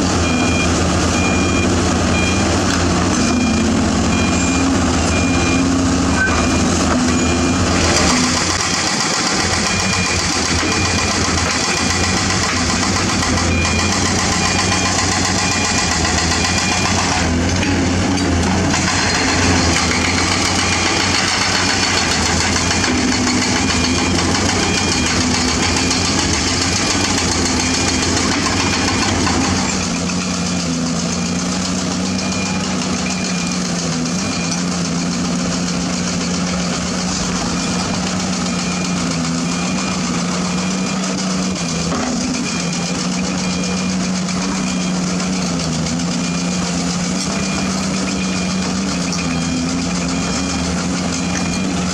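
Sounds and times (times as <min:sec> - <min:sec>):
heavy diesel engines running: 0:00.0 - 0:51.9
backup alarm beeping: 0:00.2 - 0:30.8, 0:37.2 - 0:51.9.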